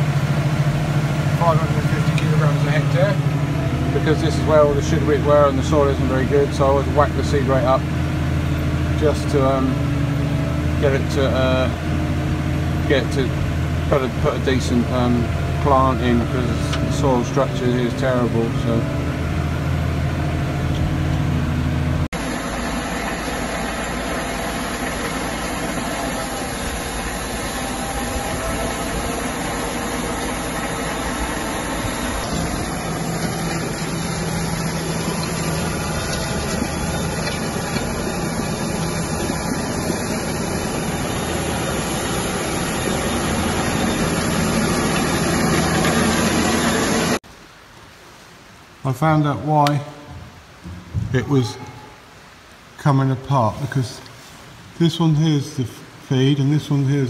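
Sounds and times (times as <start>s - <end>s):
tractor engine running under load: 0.0s - 47.2s.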